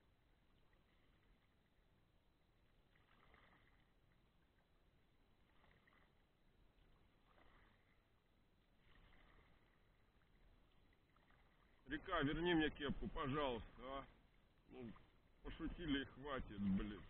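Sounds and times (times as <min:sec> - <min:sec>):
paddle splashing in water: 0:02.6 - 0:17.0.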